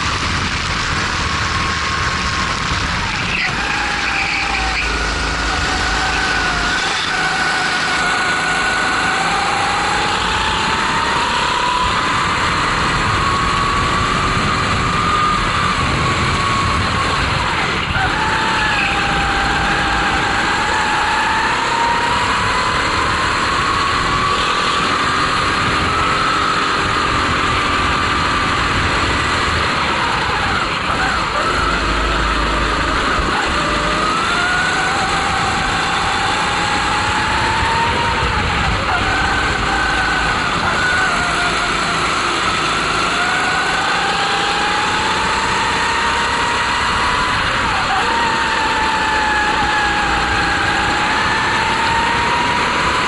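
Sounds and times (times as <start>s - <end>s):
kart engine running hard: 0.0s - 53.0s
wind and tyre noise: 0.0s - 53.0s.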